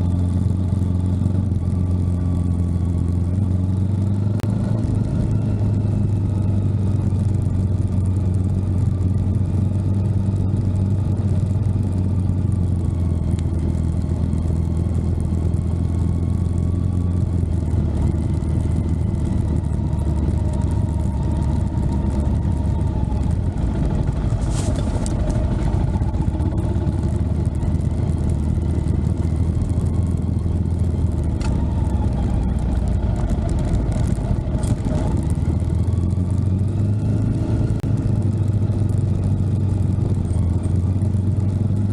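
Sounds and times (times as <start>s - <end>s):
engine humming steadily: 0.0s - 41.9s.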